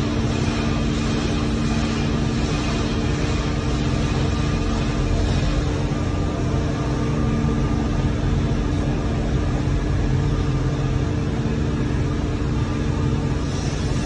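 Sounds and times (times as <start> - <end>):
excavator engine and hydraulics humming: 0.0 - 14.0.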